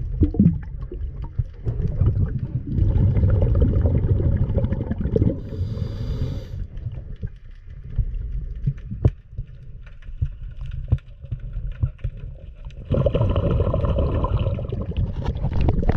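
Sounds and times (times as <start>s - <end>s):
underwater knocks and clicks: 0.0s - 5.5s, 6.6s - 15.9s
underwater low rumble: 0.0s - 15.9s.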